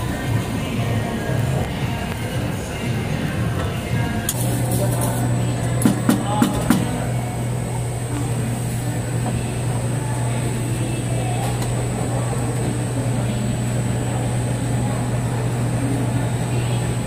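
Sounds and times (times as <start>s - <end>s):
kitchen equipment humming: 0.0s - 17.0s.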